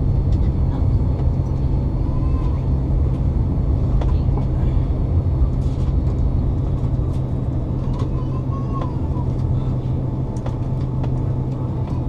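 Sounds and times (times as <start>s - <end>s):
airplane engine rumble in cabin: 0.0s - 12.0s.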